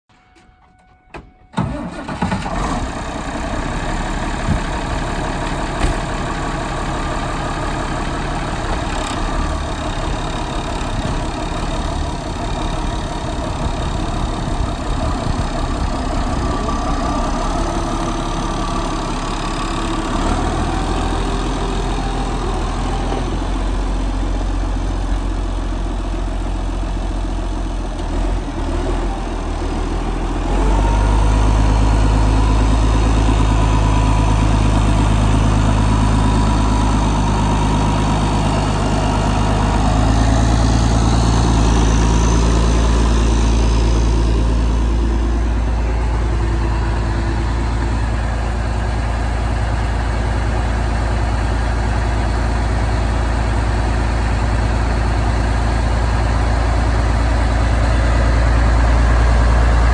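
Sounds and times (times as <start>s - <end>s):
tractor diesel engine starting and idling: 0.1s - 59.9s.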